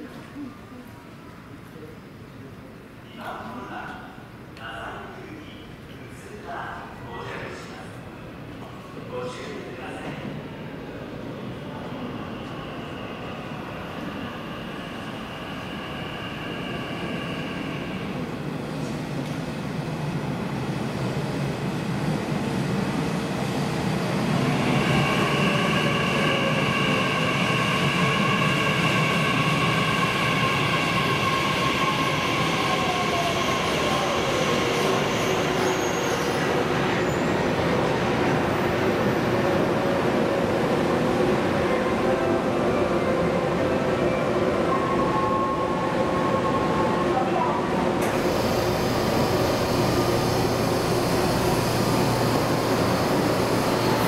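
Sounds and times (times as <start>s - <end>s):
electric train approaching: 10.5s - 54.0s.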